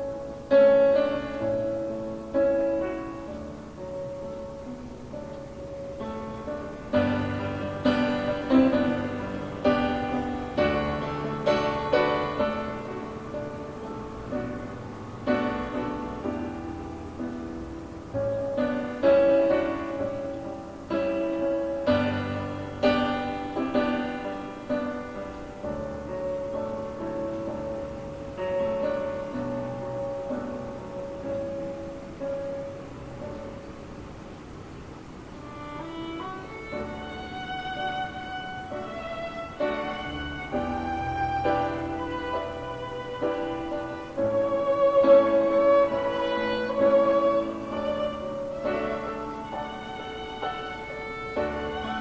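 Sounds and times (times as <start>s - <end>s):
piano playing slow chords: 0.0s - 52.0s.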